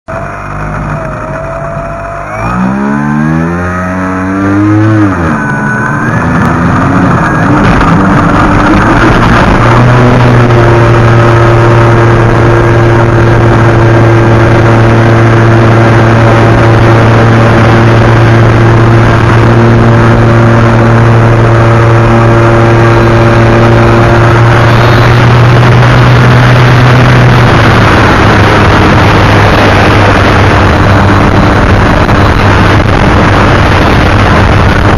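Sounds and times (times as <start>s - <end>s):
model plane motor droning: 0.1s - 32.9s
wind noise on microphone: 2.2s - 34.9s.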